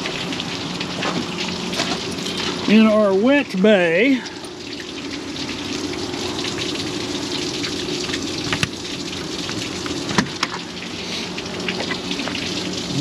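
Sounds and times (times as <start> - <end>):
water spattering onto pavement: 0.0 - 13.0.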